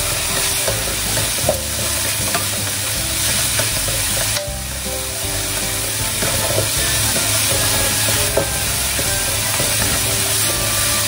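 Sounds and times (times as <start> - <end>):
food sizzling in hot oil: 0.0 - 11.0
spatula scraping a wok: 0.0 - 11.0.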